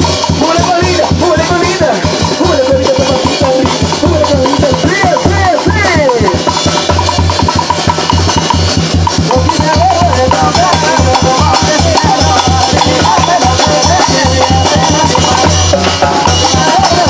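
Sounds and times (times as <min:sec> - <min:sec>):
drum kit with cymbals: 0:00.0 - 0:17.0
lead melody line: 0:00.0 - 0:17.0.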